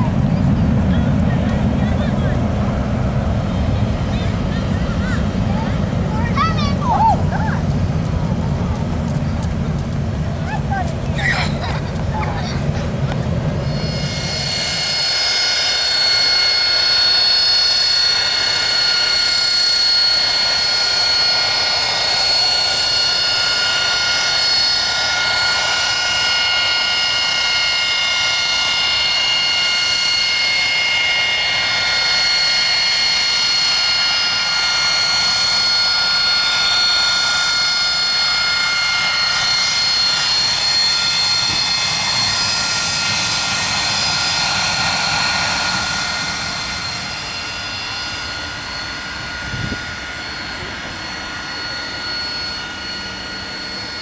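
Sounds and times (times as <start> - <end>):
jet engine whine and roar: 0.0 - 54.0.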